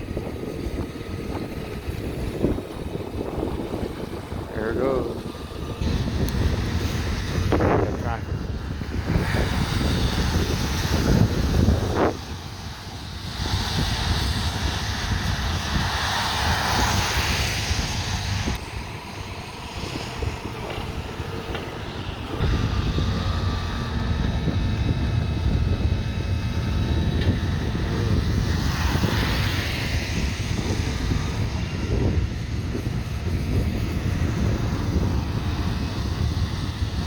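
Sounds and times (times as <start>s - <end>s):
steady low rumble: 0.0s - 37.0s
vehicles driving past: 0.0s - 37.0s.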